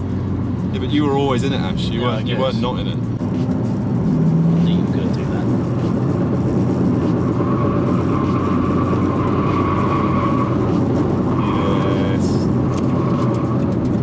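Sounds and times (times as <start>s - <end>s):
car engine and exhaust running: 0.0s - 14.0s
road noise: 0.0s - 14.0s.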